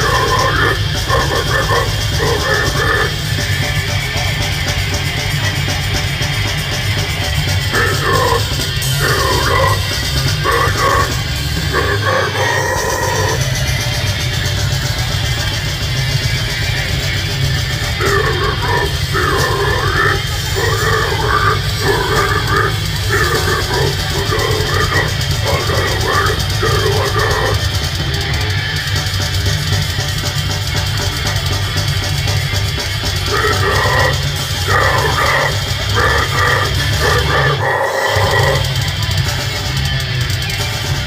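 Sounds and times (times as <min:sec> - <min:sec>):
distorted guitars and bass: 0:00.0 - 0:41.0
drum kit: 0:00.0 - 0:41.0.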